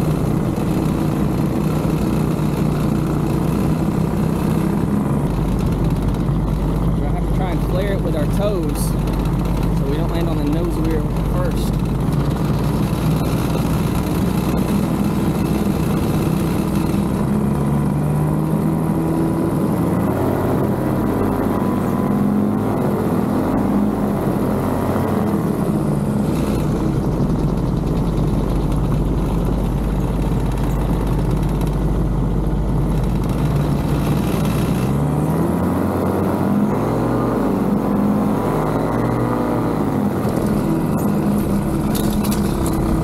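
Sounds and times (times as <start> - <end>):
ultralight engine and propeller: 0.0 - 43.0.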